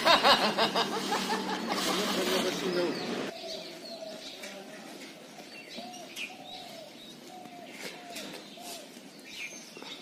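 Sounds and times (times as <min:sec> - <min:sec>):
small birds chirping: 0:02.0 - 0:10.0.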